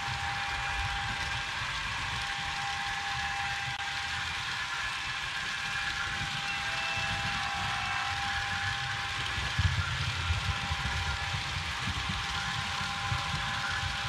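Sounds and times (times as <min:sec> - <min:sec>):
whir of model train motors: 0:00.0 - 0:14.0
wagons rolling on track: 0:00.3 - 0:14.0.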